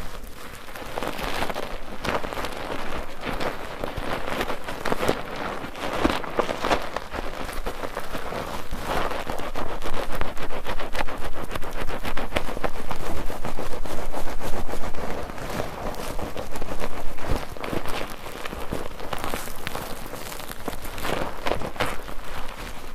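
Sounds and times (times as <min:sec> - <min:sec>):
soap foam squelching: 0:00.0 - 0:22.9.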